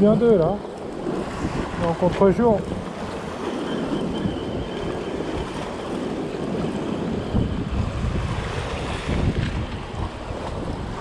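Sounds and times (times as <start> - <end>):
surf washing against rocks: 0.0 - 11.0
wind buffeting microphone: 0.0 - 11.0.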